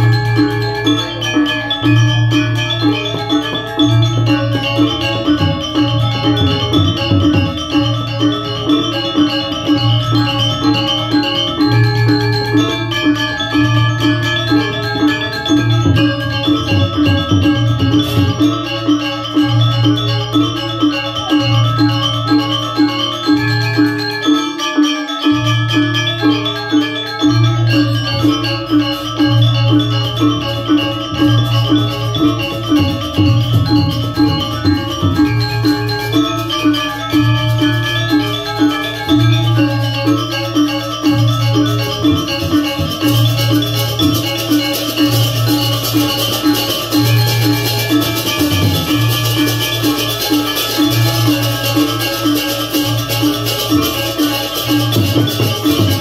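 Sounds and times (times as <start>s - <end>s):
metallophones interlocking notes: 0.0s - 56.0s.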